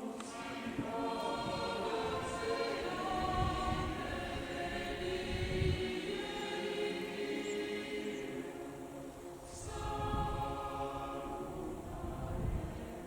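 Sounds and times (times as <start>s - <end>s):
choral music: 0.0s - 13.0s.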